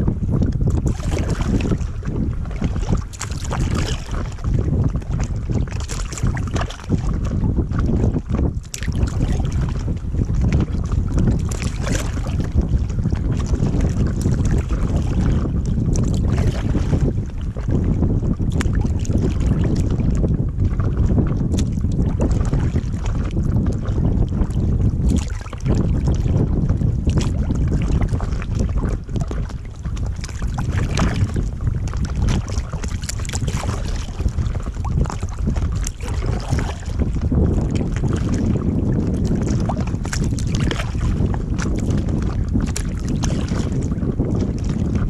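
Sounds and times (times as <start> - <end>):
water lapping against hull: 0.0 - 45.0
wind buffeting microphone: 0.0 - 45.0.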